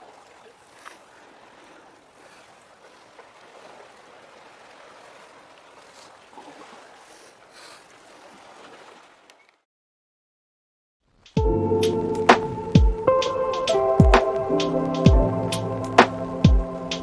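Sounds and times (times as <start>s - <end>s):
sea wash: 0.0s - 9.6s, 11.4s - 17.0s
wind: 0.0s - 9.7s, 11.1s - 17.0s.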